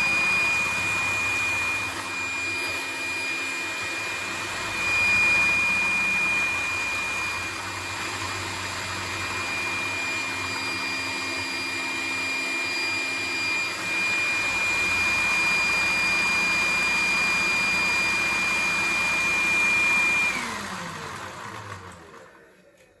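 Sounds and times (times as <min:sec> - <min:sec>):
vacuum cleaner whining: 0:00.0 - 0:23.0.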